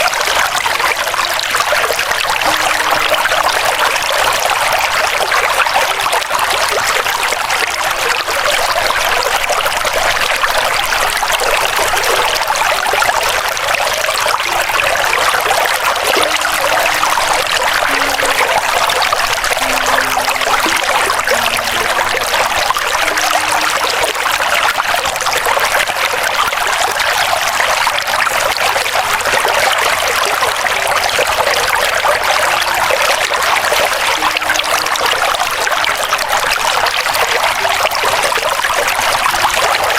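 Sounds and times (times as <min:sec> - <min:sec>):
river water running over stones: 0:00.0 - 0:39.9.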